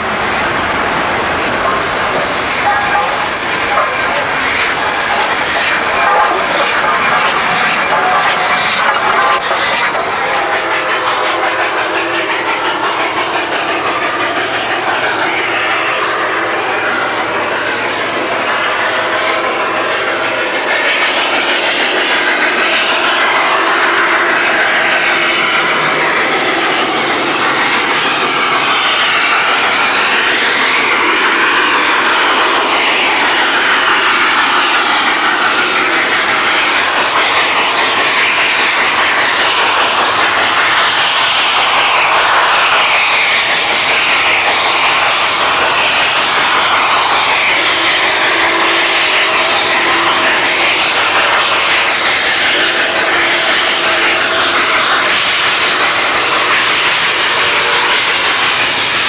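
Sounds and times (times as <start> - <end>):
steam locomotive working hard: 0.0 - 59.0.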